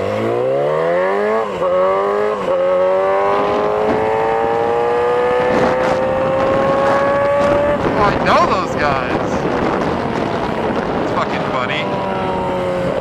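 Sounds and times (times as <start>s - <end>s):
motorcycle engine accelerating: 0.0s - 13.0s
rushing wind: 0.0s - 13.0s.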